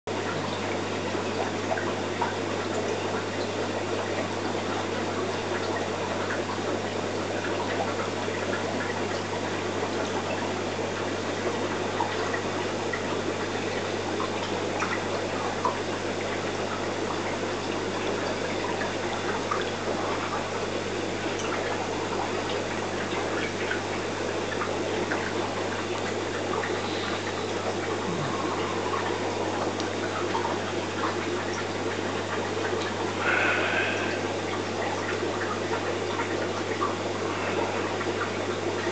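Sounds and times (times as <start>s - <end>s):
aquarium water washing: 0.1s - 38.9s
small drips and ticks: 0.1s - 38.9s.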